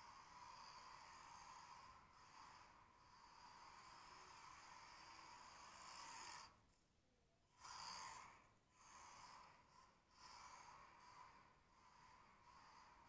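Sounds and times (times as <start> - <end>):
toy car electric motor whirring: 0.0 - 6.6, 7.5 - 13.0.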